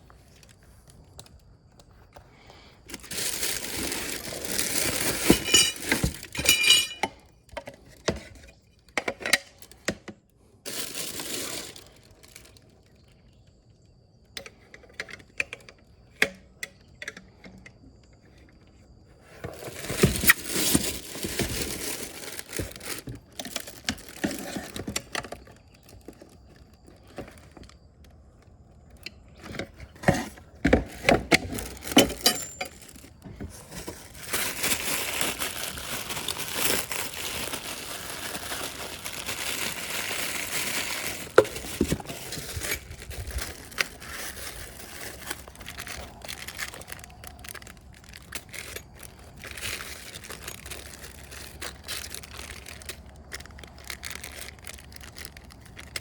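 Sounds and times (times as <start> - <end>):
packaging crinkling and rustling: 0.0 - 7.0, 10.4 - 13.6, 19.2 - 56.0.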